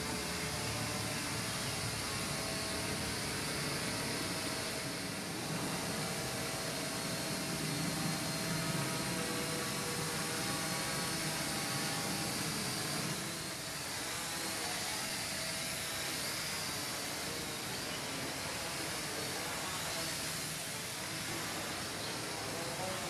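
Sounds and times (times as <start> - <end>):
drone propellers whirring: 0.0 - 23.0.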